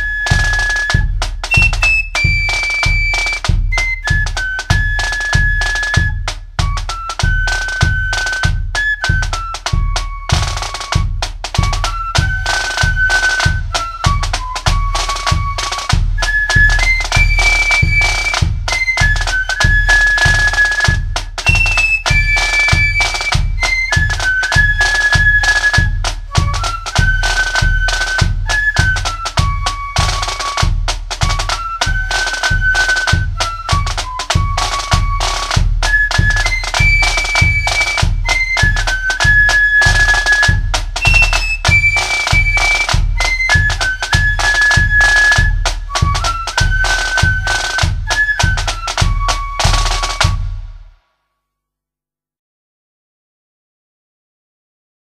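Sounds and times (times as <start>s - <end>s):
flutes playing a march: 0.0s - 50.8s
bass drum beat: 0.0s - 50.9s
rattling snare drums: 0.0s - 51.0s.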